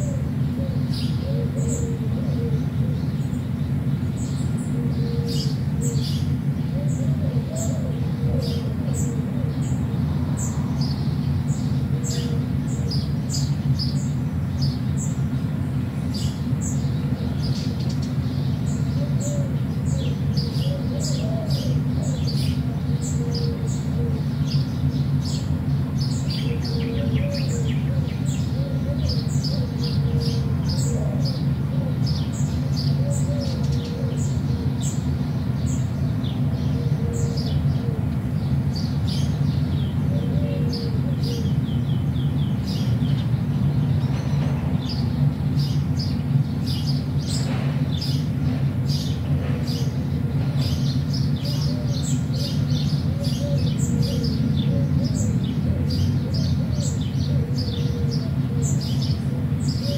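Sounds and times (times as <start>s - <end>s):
lower warbling bird call: 0.0s - 3.5s, 4.2s - 14.2s, 16.2s - 43.3s, 48.9s - 59.9s
small birds chirping: 0.0s - 59.9s.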